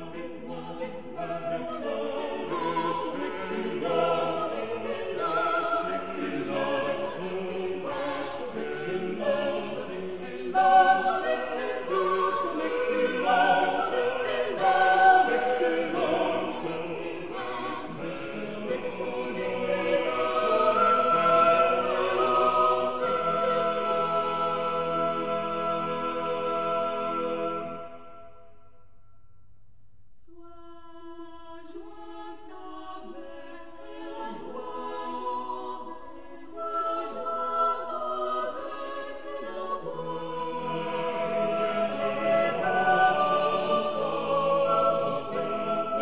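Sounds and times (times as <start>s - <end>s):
choir singing with vibrato: 0.0s - 28.9s, 30.2s - 46.0s.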